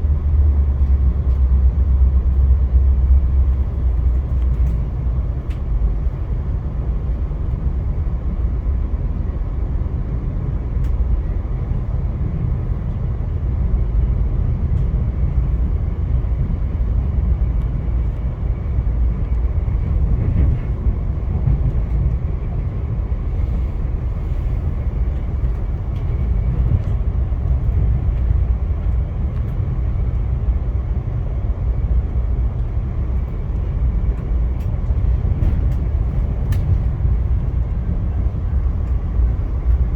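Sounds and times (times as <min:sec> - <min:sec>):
passenger train rumbling on track: 0:00.0 - 0:39.9.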